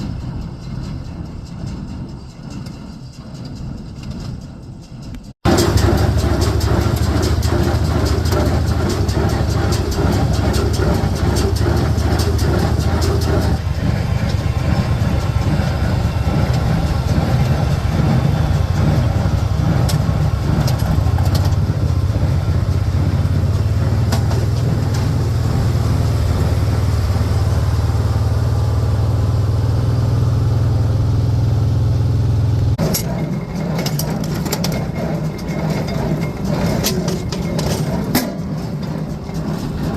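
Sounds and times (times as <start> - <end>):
farm engine droning: 0.0 - 39.9.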